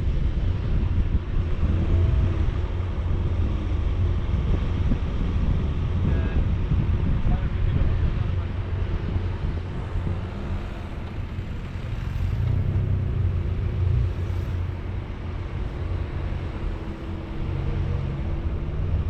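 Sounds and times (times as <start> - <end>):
engine rumble: 0.0 - 19.0
road noise: 0.0 - 19.0.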